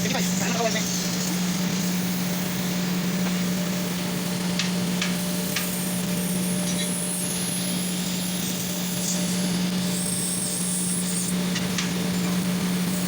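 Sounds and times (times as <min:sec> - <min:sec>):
welding arc buzzing hum: 0:00.0 - 0:13.0.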